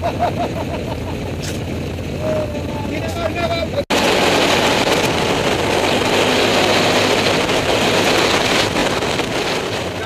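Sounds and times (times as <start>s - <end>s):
quad bike engine running: 0.0s - 10.0s
wind and tyre noise: 0.0s - 10.0s.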